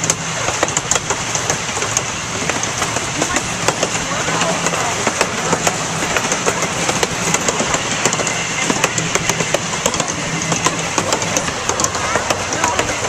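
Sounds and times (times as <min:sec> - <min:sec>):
small train rumbling on track: 0:00.0 - 0:13.0
wheels clicking and rattling: 0:00.0 - 0:13.0.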